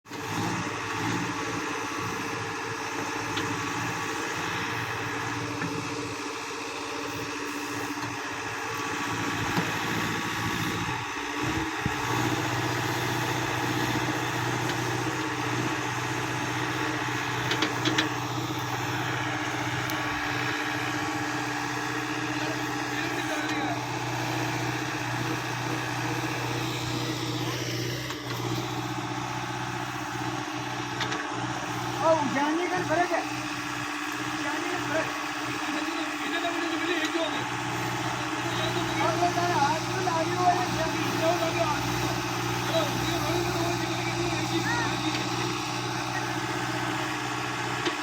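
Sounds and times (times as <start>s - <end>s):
backhoe engine running: 0.1s - 48.0s.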